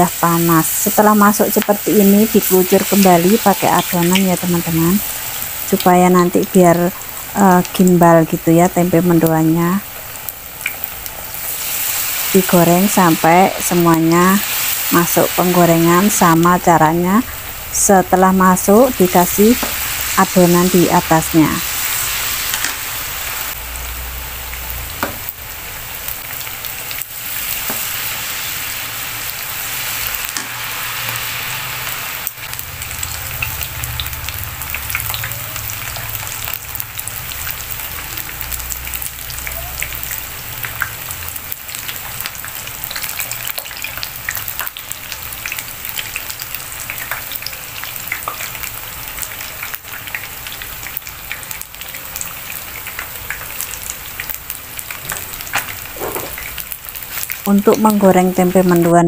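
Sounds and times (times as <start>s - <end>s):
food deep-frying in hot oil: 0.0s - 59.0s.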